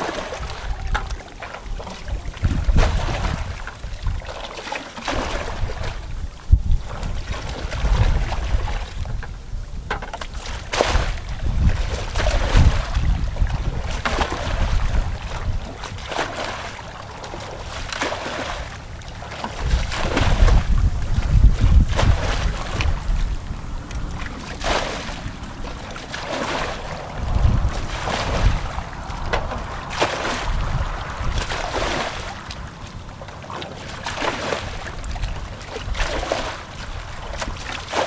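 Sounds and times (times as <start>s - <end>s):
muddy water sloshing and splashing: 0.0s - 38.0s
wind rumbling on microphone: 0.0s - 38.0s.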